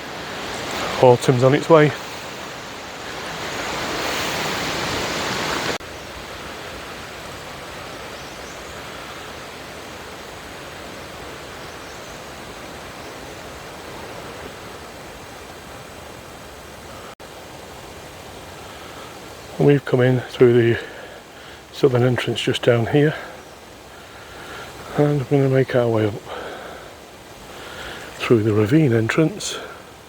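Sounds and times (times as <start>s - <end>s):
wind rushing through trees: 0.0s - 30.0s.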